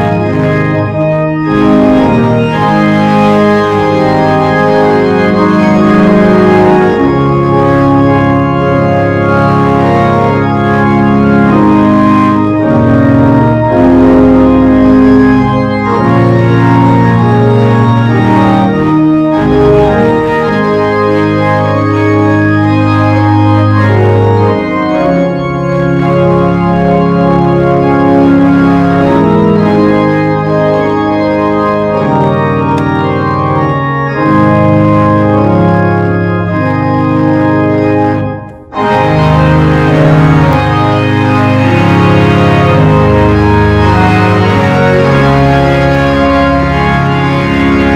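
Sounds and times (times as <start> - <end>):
organ playing chords: 0.0 - 47.9.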